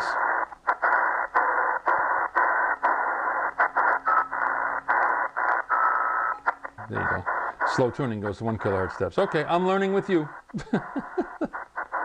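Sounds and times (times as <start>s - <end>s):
radio static hiss: 0.0s - 12.0s
radio tuning clicks: 0.0s - 12.0s.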